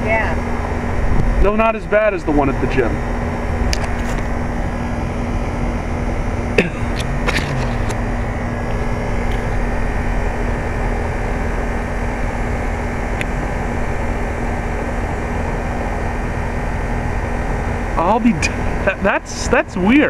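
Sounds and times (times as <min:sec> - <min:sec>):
compressor hum: 0:00.0 - 0:20.0
outdoor fan rushing: 0:00.0 - 0:20.0.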